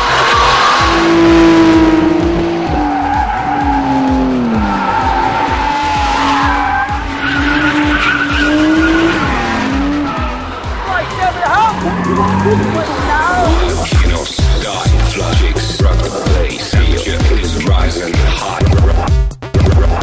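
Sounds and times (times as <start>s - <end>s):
car engine revving high: 0.0s - 18.1s
tyres screeching: 0.0s - 18.6s
music with a steady beat: 0.0s - 20.0s.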